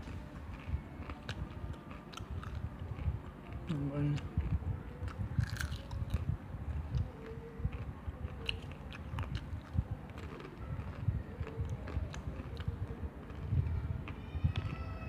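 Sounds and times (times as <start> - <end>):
chewing crispy chicken: 0.0 - 14.9.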